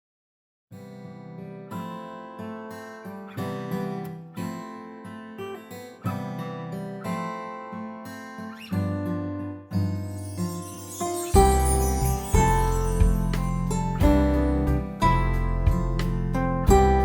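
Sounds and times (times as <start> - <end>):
acoustic guitar strumming chords: 1.3 - 17.0.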